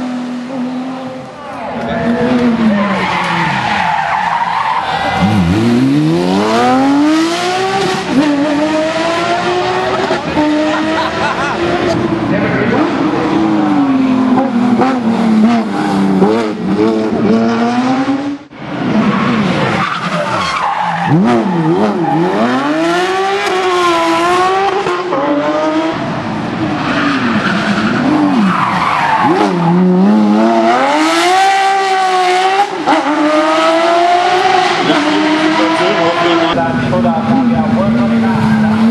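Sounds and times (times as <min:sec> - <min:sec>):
rally car engine at full throttle: 0:00.0 - 0:38.9.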